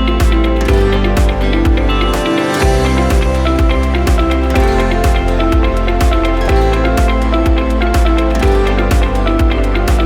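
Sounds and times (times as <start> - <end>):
music with guitar and bass: 0.0 - 10.0.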